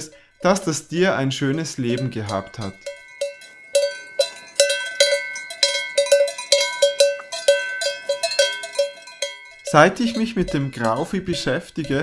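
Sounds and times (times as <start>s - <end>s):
cowbell clanking: 0.0s - 12.0s.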